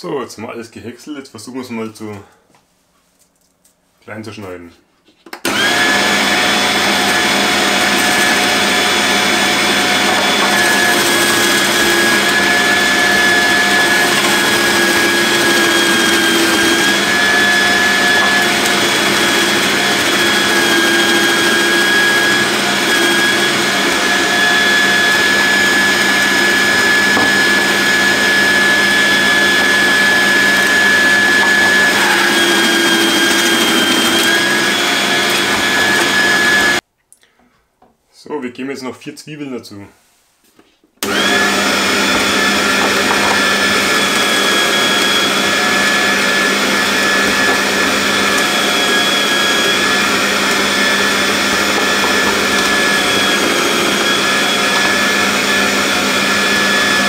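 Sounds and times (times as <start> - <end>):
electric grater motor whining: 5.4 - 36.8, 41.0 - 57.0
cabbage being shredded: 5.5 - 36.8, 41.1 - 57.0.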